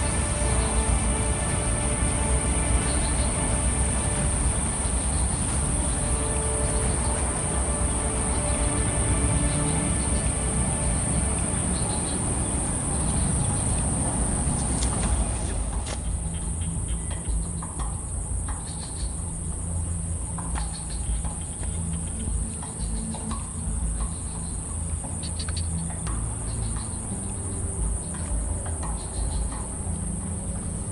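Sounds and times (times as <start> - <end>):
faint chirps and ticks: 0.0 - 30.9
insect chorus chirring: 0.0 - 30.9
low rumble: 0.0 - 30.9.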